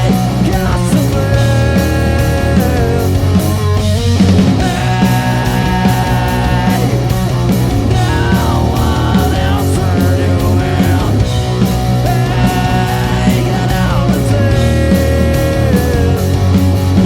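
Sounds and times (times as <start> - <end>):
bass line: 0.0 - 17.0
drum beat: 0.0 - 17.0
rock band playing: 0.0 - 17.0.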